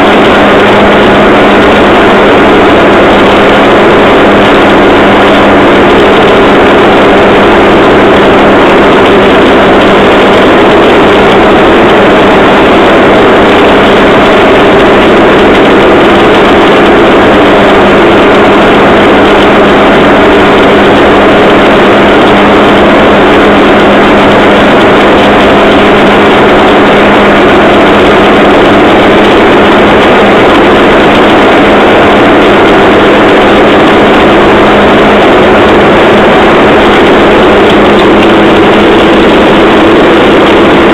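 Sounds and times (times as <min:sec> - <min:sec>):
rail trolley engine droning: 0:00.0 - 0:40.9.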